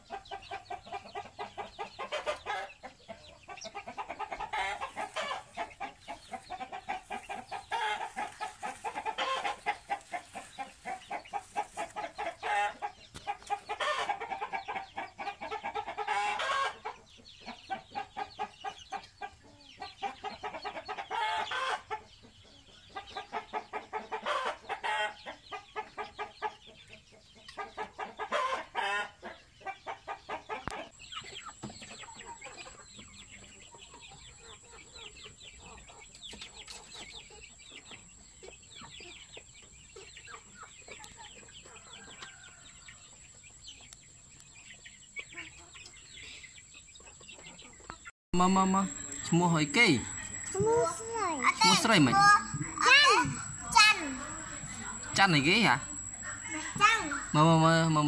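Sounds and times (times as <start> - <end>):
birds clucking: 0.0 - 58.0.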